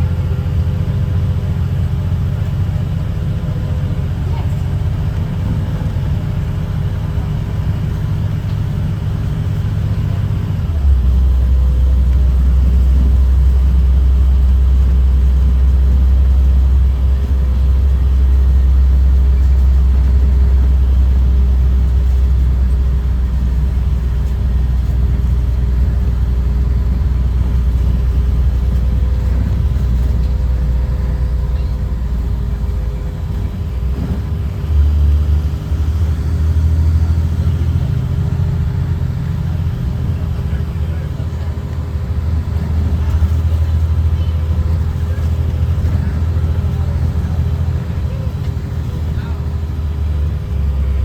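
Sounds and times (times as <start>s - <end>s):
bus diesel engine droning: 0.0s - 51.0s.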